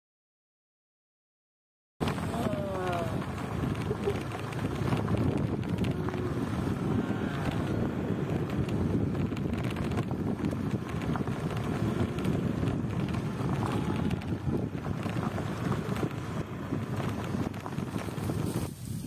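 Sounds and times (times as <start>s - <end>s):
wind buffeting microphone: 2.0s - 19.0s.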